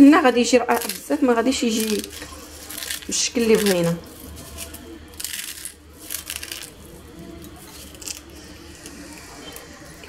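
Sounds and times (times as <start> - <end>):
cornflakes crumbled by hand: 0.6 - 10.0.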